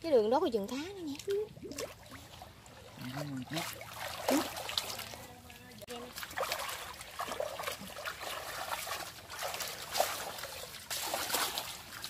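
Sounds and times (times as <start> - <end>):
muddy water splashing: 0.2 - 12.0.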